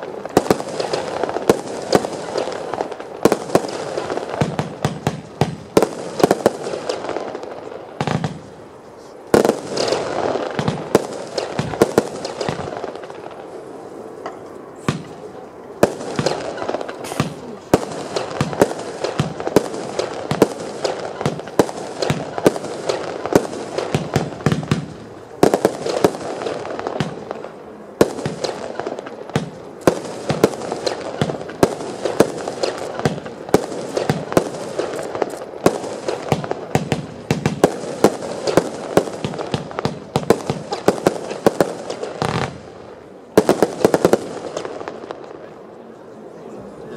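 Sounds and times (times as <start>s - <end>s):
fireworks launching and bursting: 0.0s - 14.0s, 14.7s - 45.4s.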